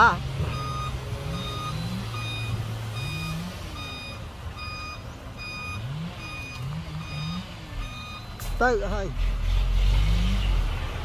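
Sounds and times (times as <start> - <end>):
truck reversing alarm beeps: 0.0 - 9.0
diesel engine humming: 0.0 - 11.0.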